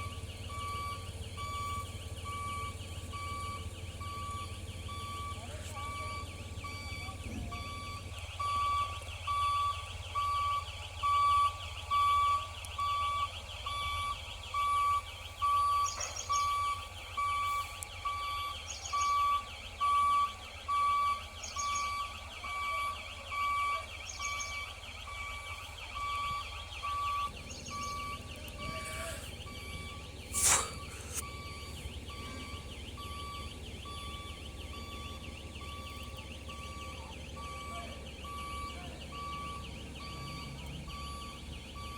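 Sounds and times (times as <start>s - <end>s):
crane warning alarm beeping: 0.0s - 41.9s
engine low hum: 0.0s - 41.9s.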